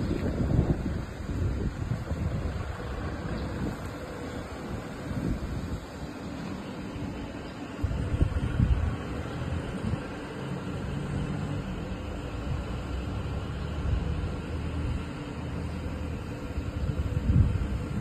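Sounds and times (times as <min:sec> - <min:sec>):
chiller compressor humming: 0:00.0 - 0:18.0
wind rumbling on microphone: 0:00.0 - 0:18.0.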